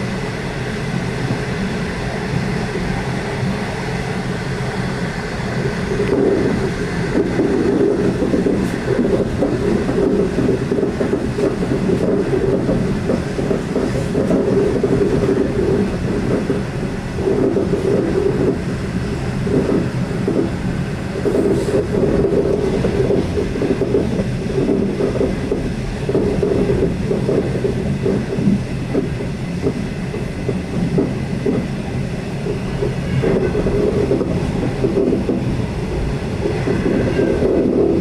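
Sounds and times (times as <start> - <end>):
train wheels rumbling on rails: 0.0 - 38.0
droning hum: 5.3 - 38.0.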